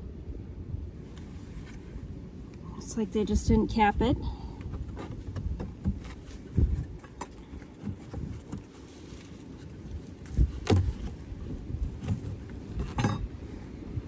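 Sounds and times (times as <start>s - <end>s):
wind buffeting microphone: 0.0s - 9.0s, 9.6s - 14.0s.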